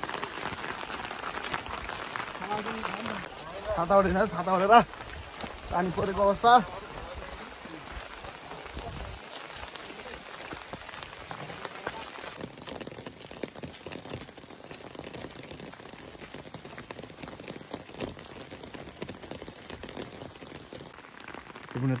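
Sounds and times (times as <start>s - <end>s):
rain falling on umbrellas: 0.0s - 22.0s.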